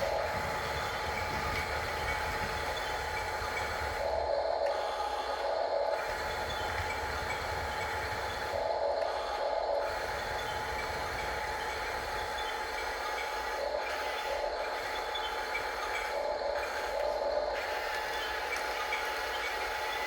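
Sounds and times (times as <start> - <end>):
electric motors and gears whirring: 0.0 - 20.0.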